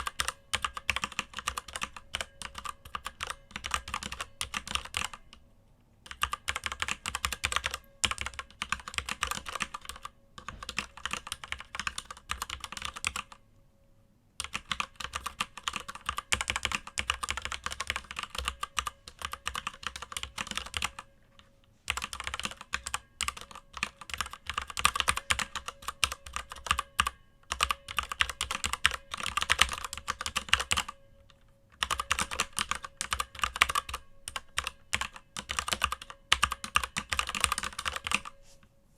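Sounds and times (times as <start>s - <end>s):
mechanical keyboard typing: 0.0s - 5.2s, 6.0s - 13.4s, 14.4s - 21.0s, 21.9s - 38.4s.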